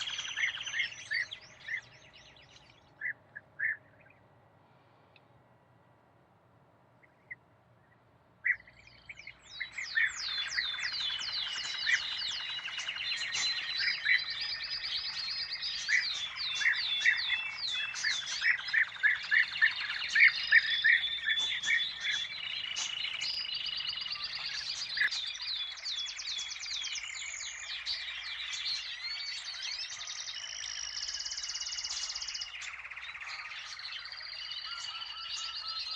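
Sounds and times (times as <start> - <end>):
songbirds chorus chirping: 0.0 - 35.9.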